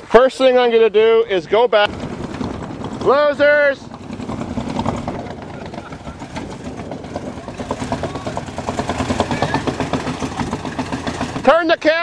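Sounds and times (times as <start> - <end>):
vehicle engine pulsing exhaust: 1.8 - 12.0.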